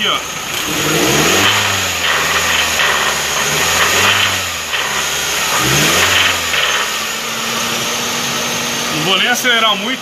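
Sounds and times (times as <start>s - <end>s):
car engine revving lightly: 0.4s - 9.0s.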